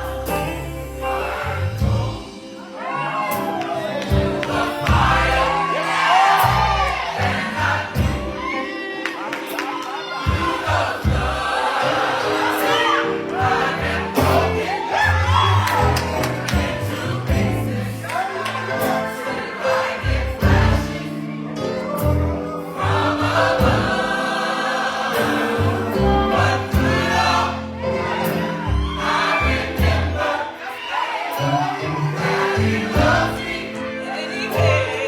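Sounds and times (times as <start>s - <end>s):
band accompaniment: 0.0s - 35.0s
gospel choir singing: 0.0s - 35.0s.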